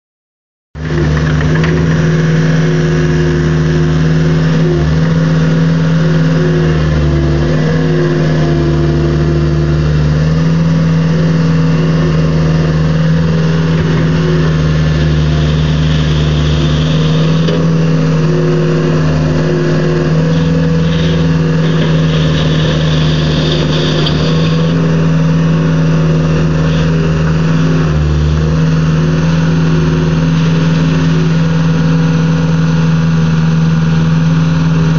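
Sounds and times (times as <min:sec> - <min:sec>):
diesel engine running: 0:00.8 - 0:34.9.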